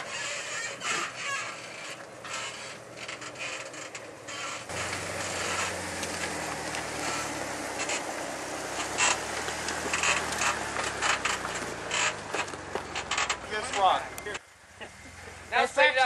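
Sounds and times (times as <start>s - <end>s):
tyres crunching on rocks: 0.0s - 14.4s
drivetrain clicks and creaks: 0.0s - 15.0s
engine running slowly: 0.0s - 15.8s.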